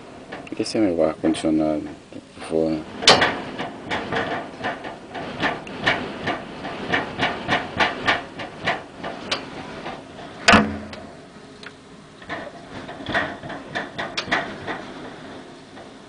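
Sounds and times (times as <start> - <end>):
rain hissing: 0.0 - 16.0
storm wind: 0.0 - 16.0
object rattling and banging: 0.2 - 11.3, 12.2 - 16.0.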